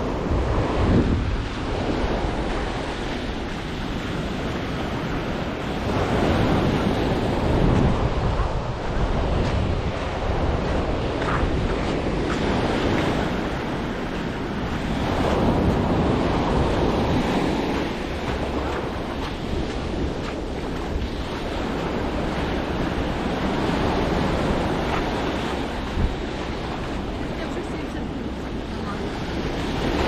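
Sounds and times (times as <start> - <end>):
ocean surf breaking on beach: 0.0 - 30.0
wind buffeting microphone: 0.0 - 30.0.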